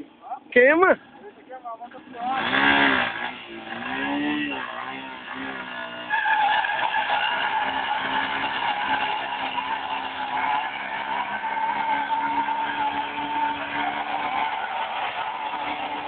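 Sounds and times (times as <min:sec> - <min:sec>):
motorcycle engine running: 0:01.0 - 0:16.0
tyre squealing: 0:02.1 - 0:16.0.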